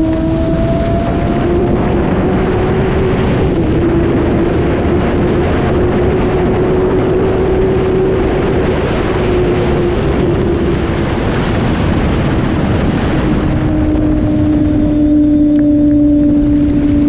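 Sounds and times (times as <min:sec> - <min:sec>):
heavy wind rush: 0:00.0 - 0:17.0
motorcycle engine cruising: 0:00.0 - 0:17.0.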